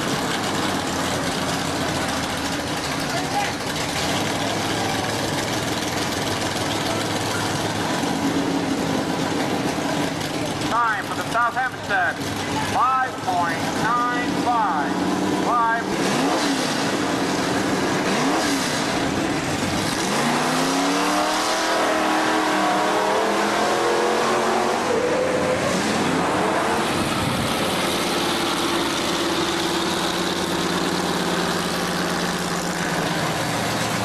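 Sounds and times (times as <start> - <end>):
engine revving: 0.0 - 11.4, 12.1 - 34.0.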